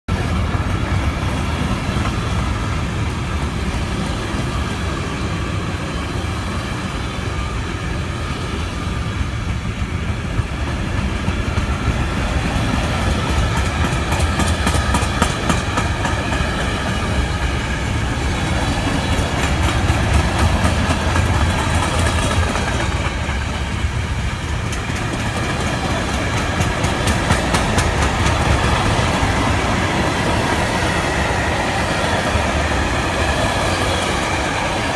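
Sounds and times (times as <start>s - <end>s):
train rumbling: 0.1s - 34.9s
wheels clacking over rail joints: 0.1s - 34.9s.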